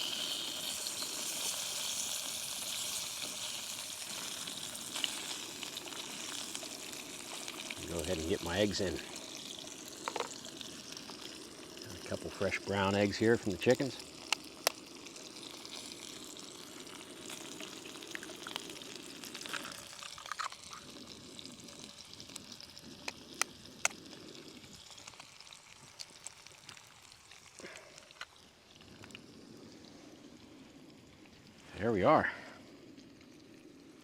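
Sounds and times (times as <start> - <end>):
eggs and sausages sizzling in pan: 0.0 - 34.0.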